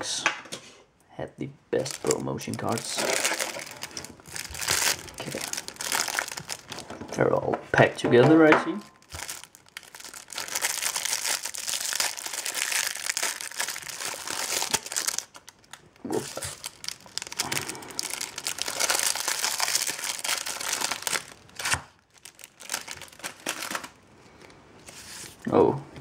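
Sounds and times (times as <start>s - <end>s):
plastic wrapping crinkling: 1.8s - 7.4s, 8.4s - 25.4s.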